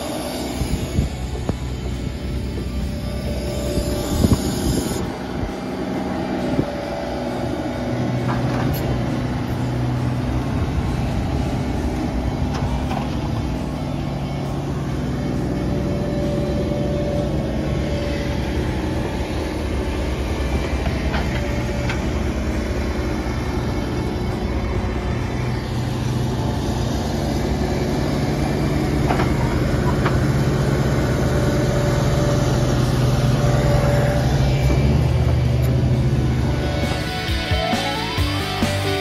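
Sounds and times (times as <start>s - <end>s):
hydraulic whine: 0.0s - 39.0s
truck engine drone: 0.0s - 39.0s.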